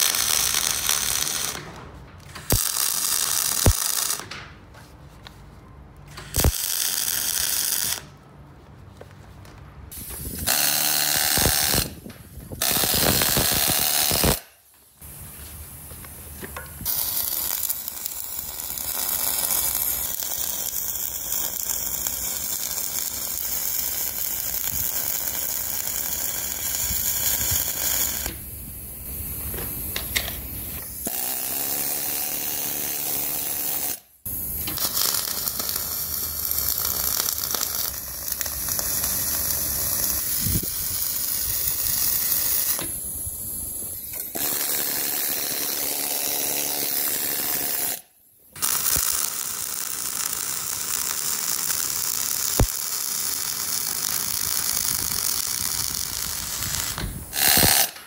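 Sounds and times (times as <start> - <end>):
welding arc crackling: 0.0 - 4.3, 6.3 - 8.2, 9.9 - 48.0, 48.6 - 58.0.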